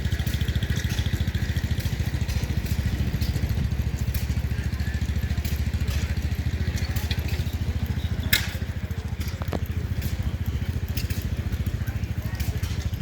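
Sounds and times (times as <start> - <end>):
small engine pulsing: 0.0 - 13.0.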